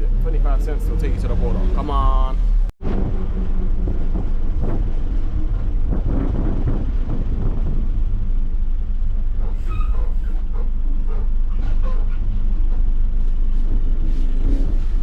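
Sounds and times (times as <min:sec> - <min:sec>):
bus engine running: 0:00.0 - 0:15.0
vehicle rattles and knocks: 0:02.6 - 0:15.0.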